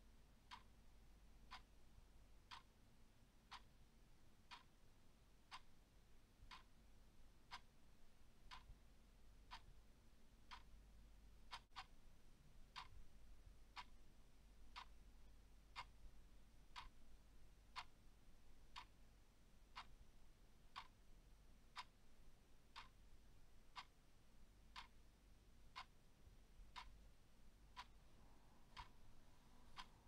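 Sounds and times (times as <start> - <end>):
faint clock ticking: 0.0 - 30.0.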